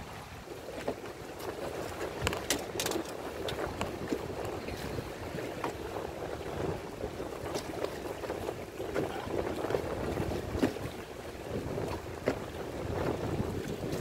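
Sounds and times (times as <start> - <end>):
water sloshing: 0.0 - 14.0
wind noise on microphone: 0.0 - 14.0.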